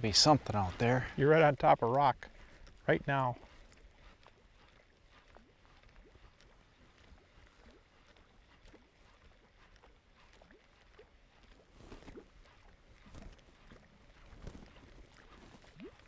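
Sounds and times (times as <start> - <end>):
water lapping around boat: 0.0 - 16.0.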